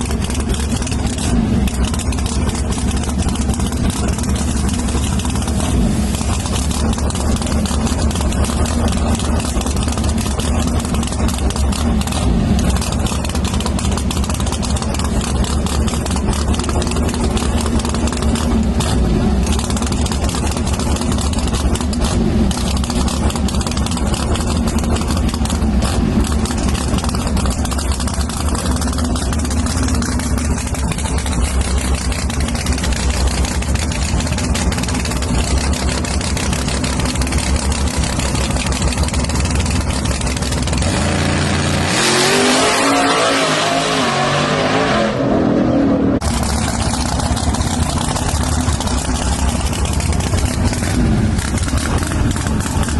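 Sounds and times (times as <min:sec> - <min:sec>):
engine idling: 0:00.0 - 0:43.0, 0:46.2 - 0:52.9.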